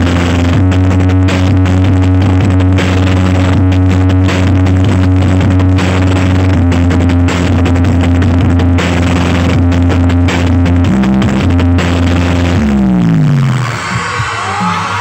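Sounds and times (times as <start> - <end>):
loud music with deep bass: 0.0 - 15.0.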